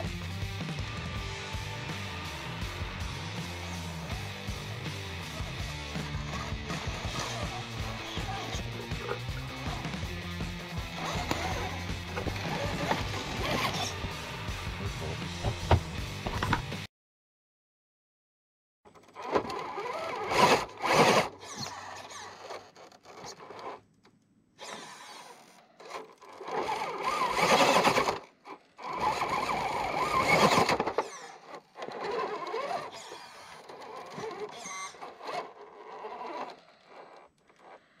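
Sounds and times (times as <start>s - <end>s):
toy car motor and gears whining: 1.0s - 16.6s, 18.9s - 23.8s, 24.6s - 38.0s.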